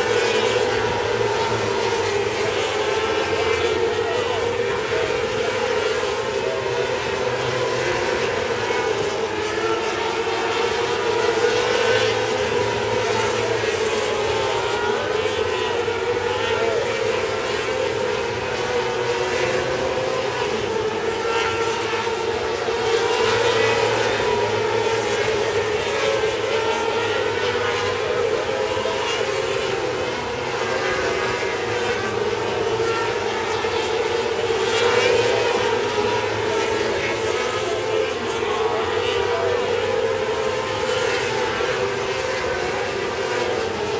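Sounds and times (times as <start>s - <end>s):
racing car engine at high revs: 0.0s - 43.9s.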